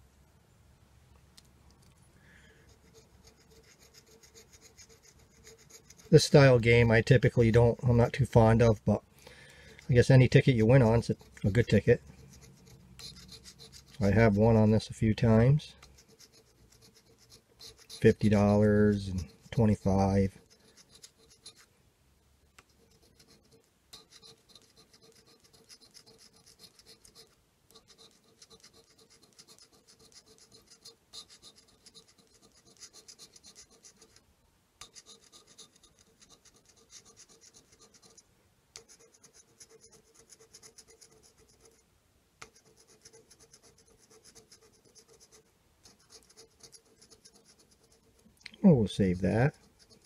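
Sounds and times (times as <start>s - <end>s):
disc scraping scratch card: 2.8s - 7.3s, 9.8s - 21.7s, 22.6s - 34.2s, 34.8s - 38.2s, 38.8s - 41.8s, 42.4s - 48.2s, 49.0s - 50.0s.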